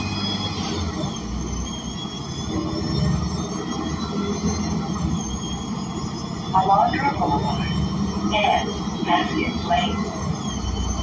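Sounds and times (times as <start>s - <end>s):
bus engine running: 0.0s - 11.0s
faint high whines: 0.0s - 11.0s
road rumble: 0.0s - 11.0s.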